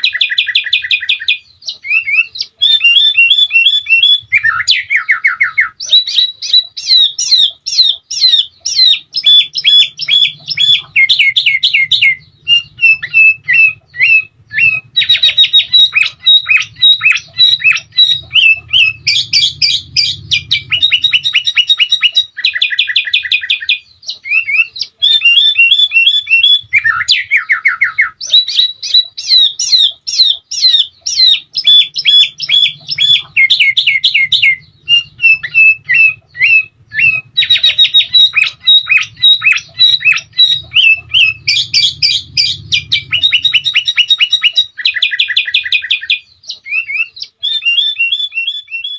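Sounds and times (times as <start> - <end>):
bird chirping and trilling: 0.0 - 48.9.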